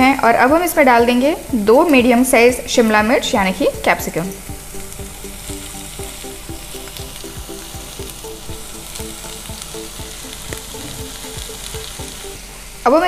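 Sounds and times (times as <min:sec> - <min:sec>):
background music with beat: 0:00.0 - 0:12.7
vegetables sizzling in hot oil: 0:00.0 - 0:13.0.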